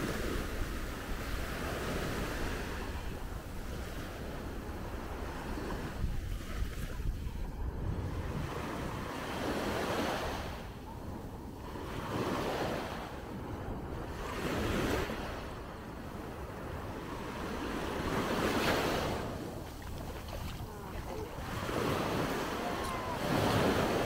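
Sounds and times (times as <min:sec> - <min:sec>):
sea waves breaking on beach: 0:00.0 - 0:24.0
wind buffeting microphone: 0:00.0 - 0:24.0.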